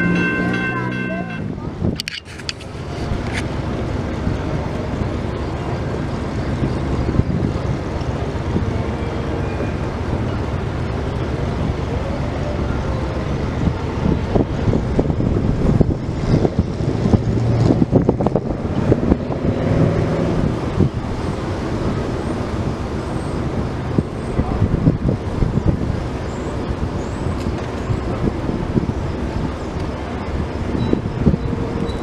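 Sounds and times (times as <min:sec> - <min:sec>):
train rumbling past: 0:00.0 - 0:32.0
wind buffeting microphone: 0:01.4 - 0:32.0.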